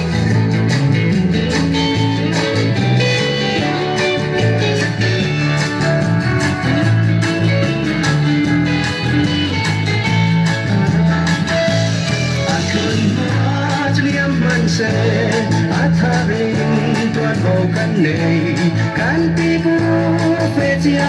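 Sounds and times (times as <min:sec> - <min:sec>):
guitar-led background music: 0:00.0 - 0:21.0.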